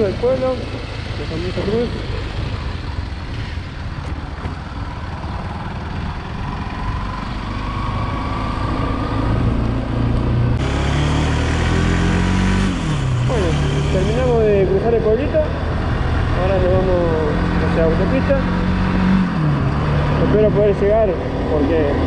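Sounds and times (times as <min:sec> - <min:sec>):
motorcycle engine running: 0:00.0 - 0:22.0
road noise: 0:00.0 - 0:22.0
wind: 0:00.0 - 0:22.0.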